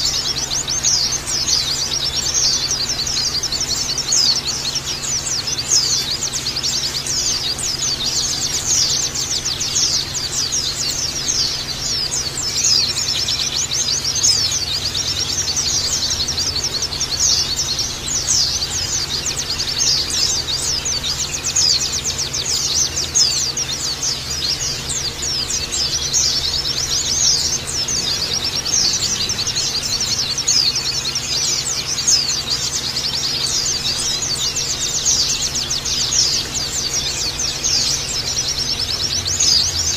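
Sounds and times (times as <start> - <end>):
birds twittering chorus: 0.0 - 39.9
faint steady hum: 0.0 - 39.9.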